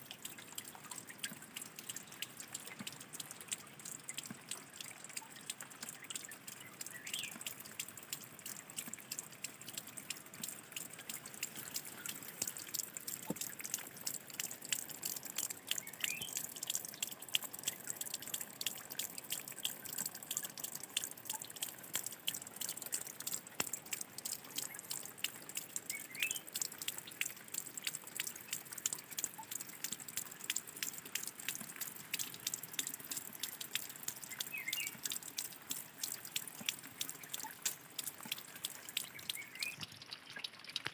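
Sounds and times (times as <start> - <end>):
water trickling and dripping: 0.0 - 40.9.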